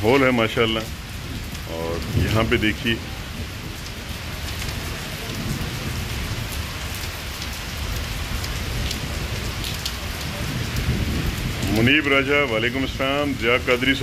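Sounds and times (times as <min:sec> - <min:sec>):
heavy rain pouring: 0:00.0 - 0:14.0
water splashing onto plants: 0:00.0 - 0:14.0.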